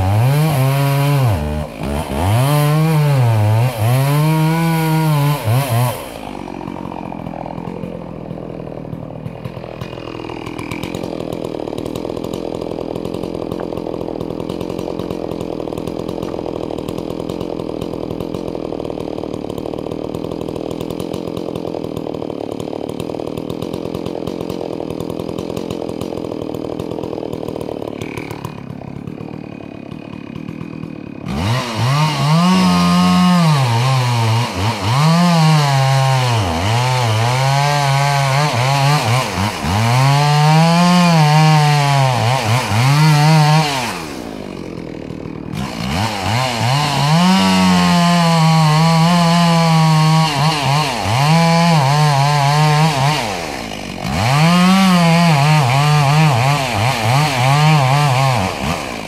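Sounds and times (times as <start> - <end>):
chainsaw cutting wood: 0.0 - 59.0
chainsaw idling: 0.0 - 59.0.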